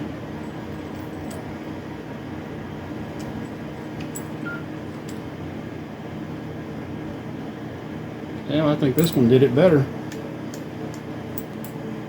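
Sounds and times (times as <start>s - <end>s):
mechanical background hum: 0.0s - 12.0s.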